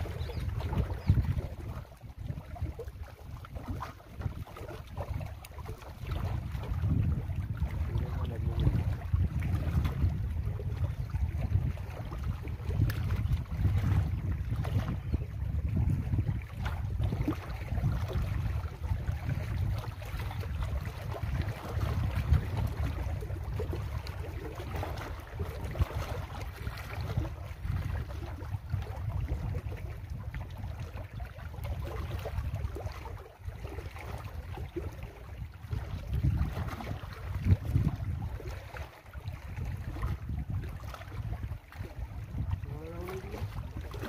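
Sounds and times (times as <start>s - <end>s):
small waves lapping on rocks: 0.0s - 44.0s
wind buffeting microphone: 0.0s - 44.0s.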